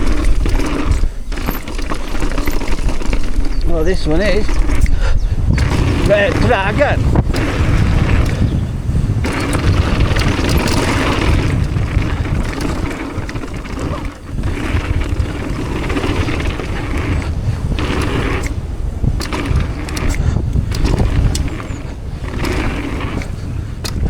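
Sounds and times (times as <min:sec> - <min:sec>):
bike tyres on dirt trail: 0:00.0 - 0:24.0
wind buffeting microphone: 0:00.0 - 0:24.0.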